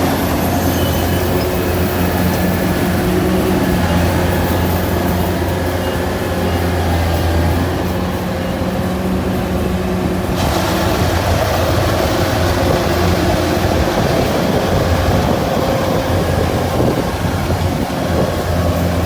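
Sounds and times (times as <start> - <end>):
broad rushing noise: 0.0 - 19.0
harvester engine hum: 0.0 - 19.0.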